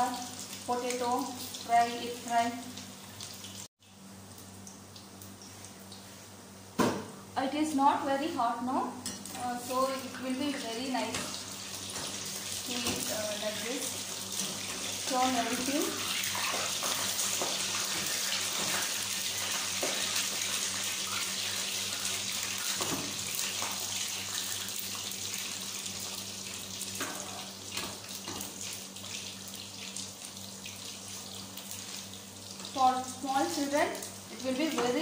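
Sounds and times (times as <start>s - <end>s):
food deep-frying in hot oil: 0.0s - 35.0s.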